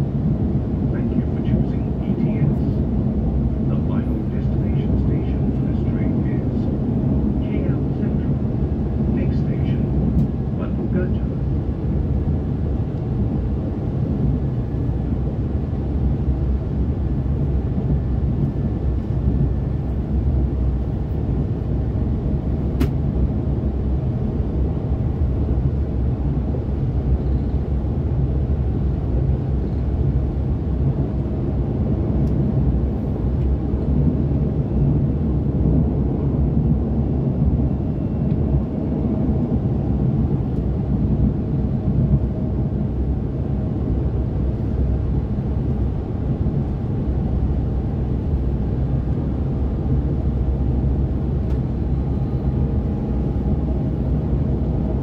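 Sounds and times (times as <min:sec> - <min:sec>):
train rumble inside carriage: 0:00.0 - 0:55.0.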